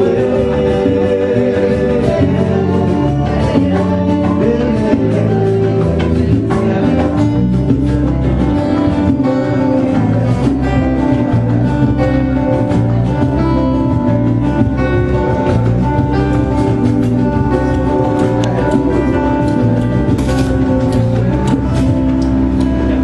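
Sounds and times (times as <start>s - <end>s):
electric guitar: 0.0s - 23.0s
hand drum: 0.0s - 23.0s
strummed acoustic guitar: 0.0s - 23.0s.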